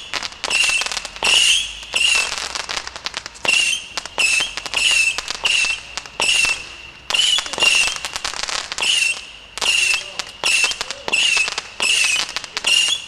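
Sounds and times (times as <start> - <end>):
firework crackling: 0.0 - 13.0
whistling firework missiles: 0.0 - 13.0.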